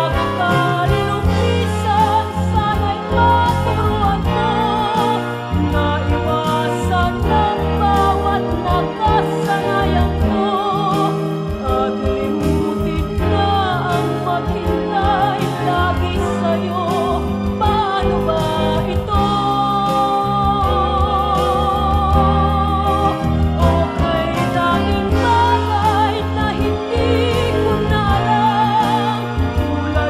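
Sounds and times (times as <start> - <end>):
karaoke ballad backing track: 0.0 - 30.0.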